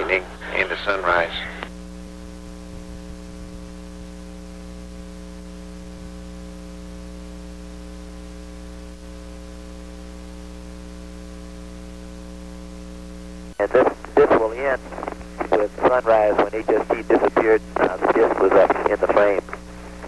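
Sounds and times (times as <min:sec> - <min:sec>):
electrical hum: 0:00.0 - 0:20.0
radio hiss: 0:00.0 - 0:20.0.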